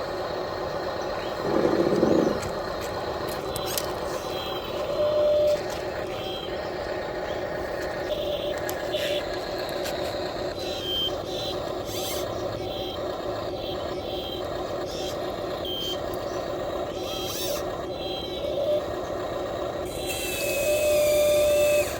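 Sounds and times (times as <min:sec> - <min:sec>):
small electric motors humming: 0:00.0 - 0:21.9.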